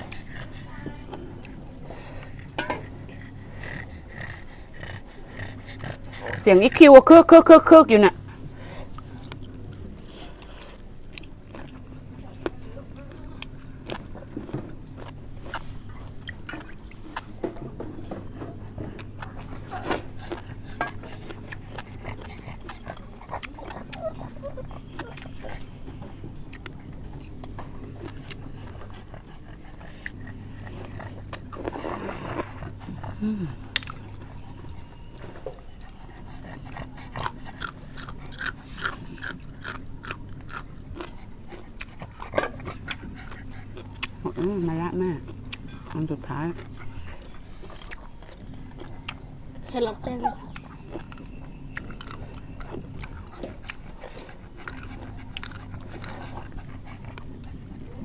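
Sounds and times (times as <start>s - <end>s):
people chewing food: 0.0s - 58.0s.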